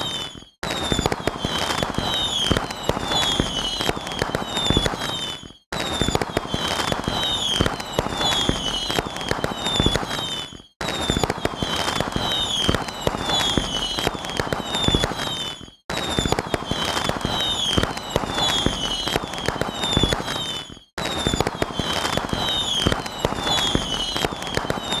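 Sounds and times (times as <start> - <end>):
quick falling whistles: 0.0 - 25.0.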